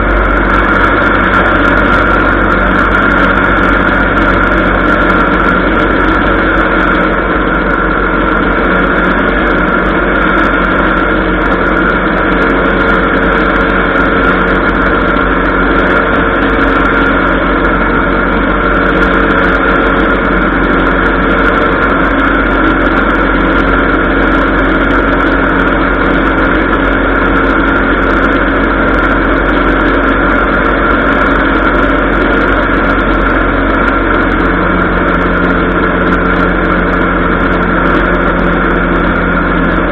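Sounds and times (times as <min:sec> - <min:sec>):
aircraft engine and propeller: 0:00.0 - 0:39.9
rush of air: 0:00.0 - 0:39.9.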